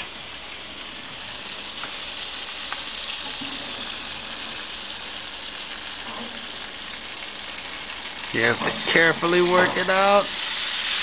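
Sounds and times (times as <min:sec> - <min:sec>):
chickens sizzling in pan juices: 0:00.0 - 0:11.0.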